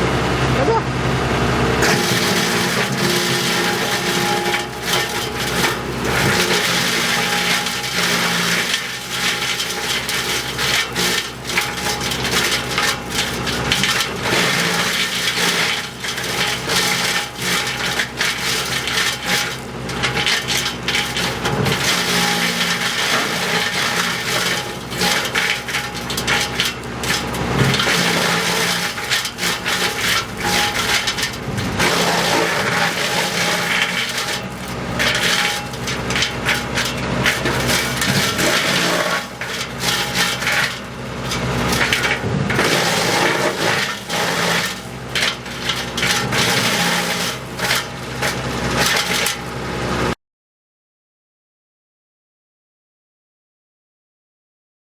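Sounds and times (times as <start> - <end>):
wood chipper running: 0.0 - 50.2
wood crackling and crunching: 1.8 - 50.2.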